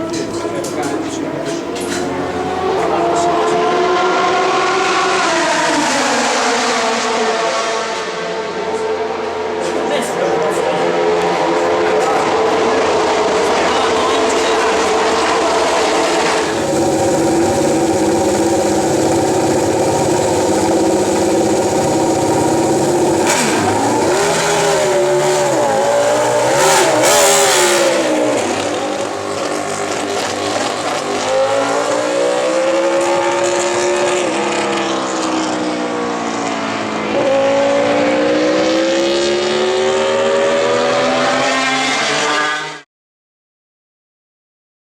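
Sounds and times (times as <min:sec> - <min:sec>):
racing motorcycle engine revving: 0:00.0 - 0:42.9.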